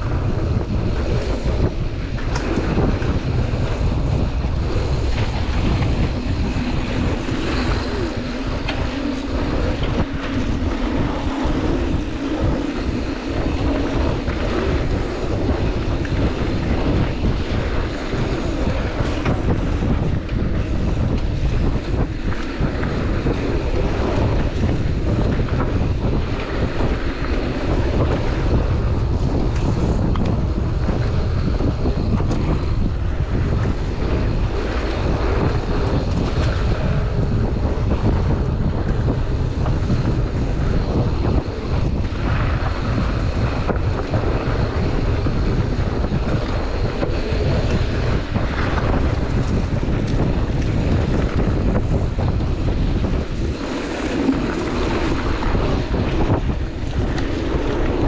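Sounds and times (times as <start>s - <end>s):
bike tyres rolling over dirt: 0.0s - 58.0s
wind rushing over microphone: 0.0s - 58.0s.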